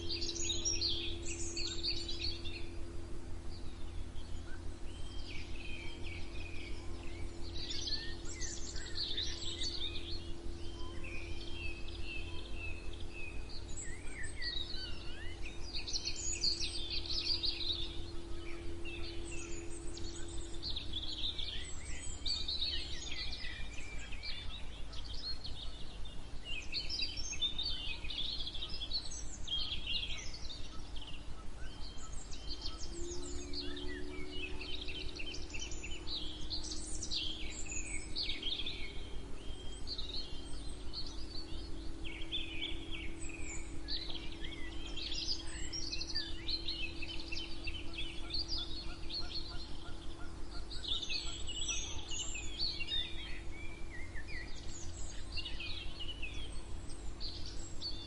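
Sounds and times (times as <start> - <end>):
songbirds chirping and singing: 0.0 - 58.0
steady low hum: 0.0 - 58.0.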